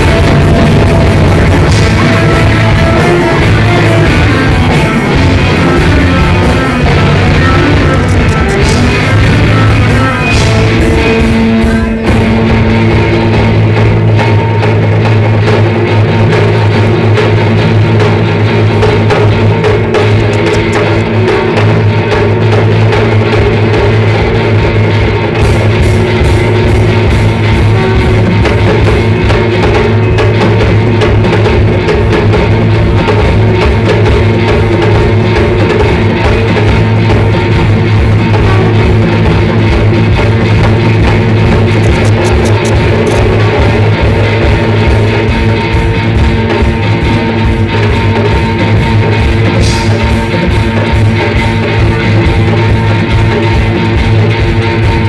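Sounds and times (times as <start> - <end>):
bass guitar: 0.0 - 55.0
drum kit: 0.0 - 55.0
electric guitars: 0.0 - 55.0
hand drums: 0.0 - 55.0.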